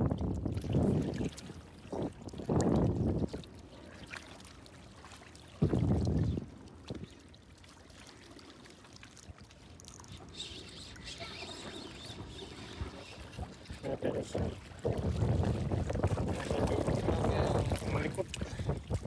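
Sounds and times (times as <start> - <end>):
sea water lapping against rocks: 0.0 - 19.0
water trickling: 0.0 - 19.0.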